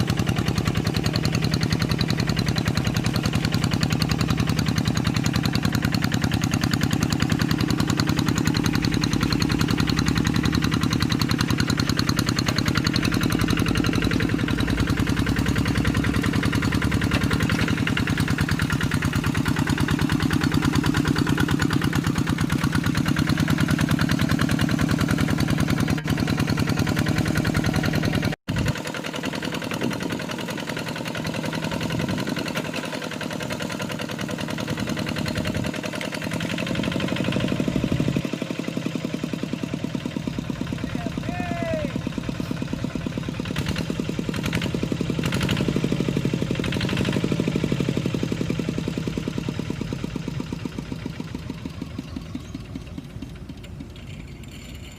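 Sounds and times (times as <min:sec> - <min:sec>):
single-cylinder diesel engine running: 0:00.0 - 0:54.9.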